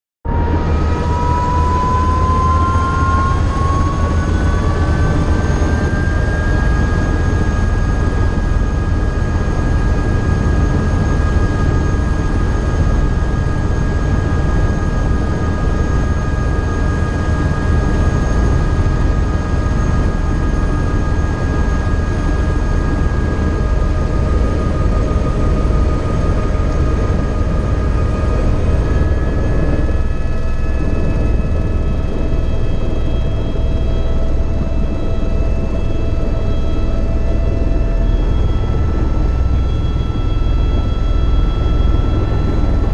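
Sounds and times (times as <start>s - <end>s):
helicopter rotor rumble: 0.3s - 42.9s
turbine engine whine: 0.3s - 42.9s.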